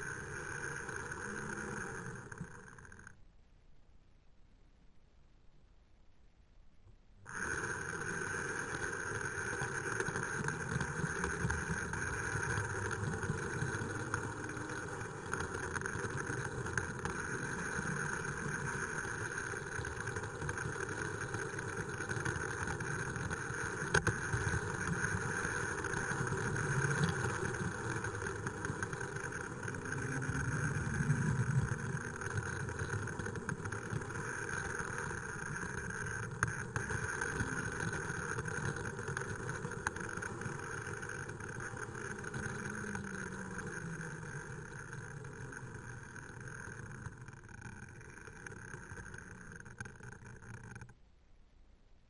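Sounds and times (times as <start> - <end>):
small electric motor running: 0.0 - 3.2, 7.3 - 50.9
wheels rolling on track: 0.0 - 3.2, 7.2 - 51.0.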